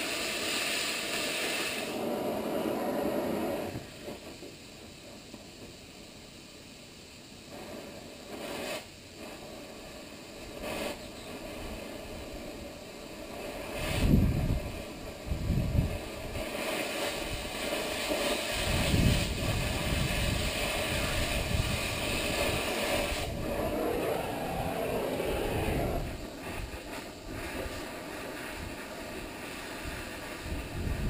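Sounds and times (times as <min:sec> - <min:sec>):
cutting torch hissing: 0:00.0 - 0:31.0.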